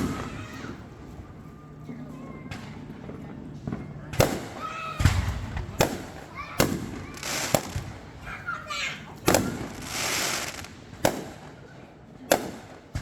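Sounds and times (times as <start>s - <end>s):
fireworks bangs: 0.0s - 1.2s, 2.5s - 13.0s
people's voices: 0.0s - 13.0s.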